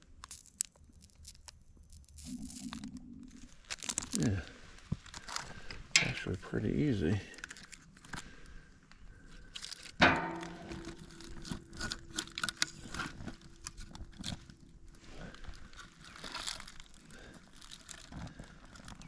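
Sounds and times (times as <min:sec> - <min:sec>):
campfire crackling: 0:00.0 - 0:19.0
crinkling handling noises: 0:00.0 - 0:19.0.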